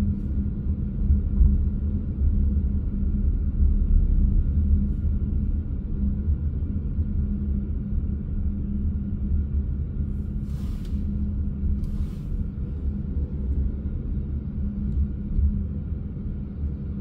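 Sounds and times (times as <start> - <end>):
car interior low rumble: 0.0 - 17.0.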